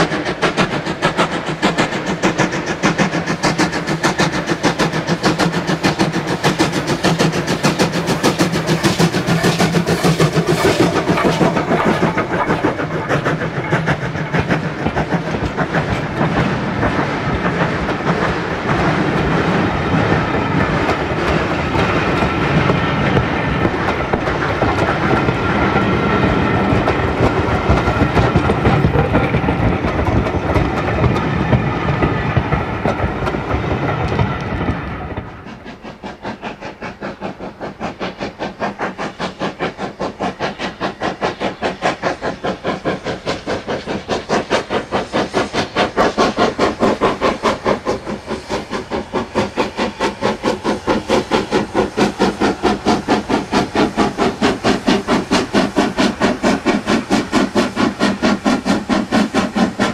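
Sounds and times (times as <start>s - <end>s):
steam locomotive chuffing: 0.0s - 59.9s
train coaches rumbling past: 0.0s - 59.9s.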